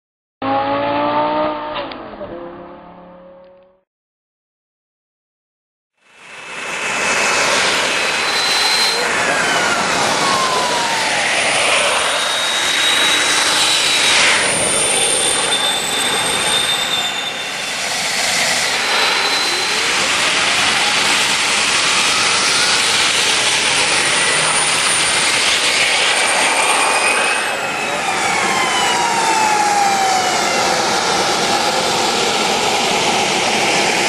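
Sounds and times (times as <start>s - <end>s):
jet engine roaring with high whine: 6.0s - 34.0s.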